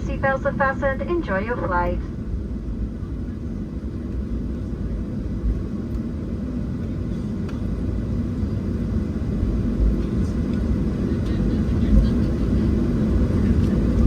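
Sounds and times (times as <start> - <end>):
jet cabin engine rumble: 0.0 - 14.0.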